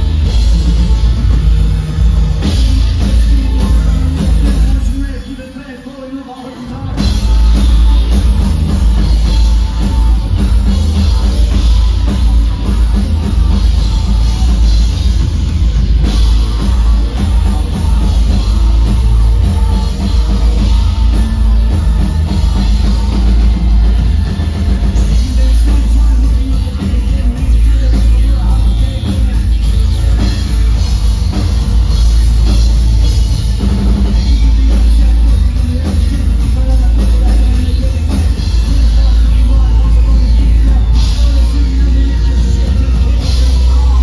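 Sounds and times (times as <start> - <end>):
live industrial band playing: 0.0 - 44.0.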